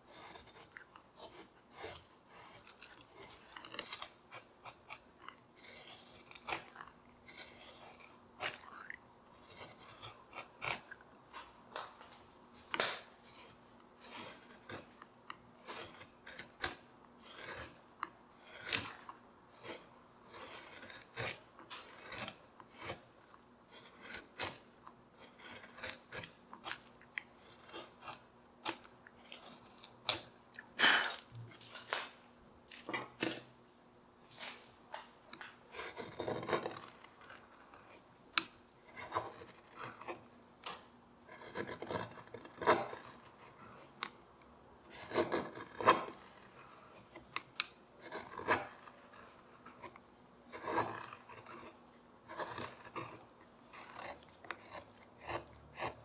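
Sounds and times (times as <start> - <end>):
carving gouge cutting wood: 0.0 - 11.0, 12.8 - 31.6, 35.7 - 40.2, 41.3 - 44.2, 44.9 - 56.0.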